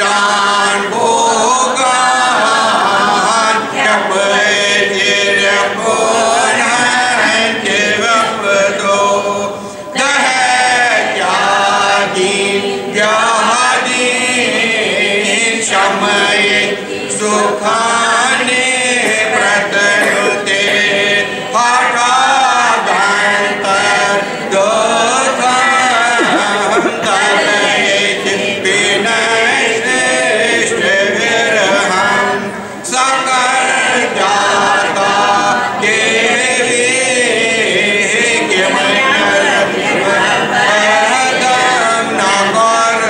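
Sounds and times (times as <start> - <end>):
group chanting a hymn: 0.0 - 43.0.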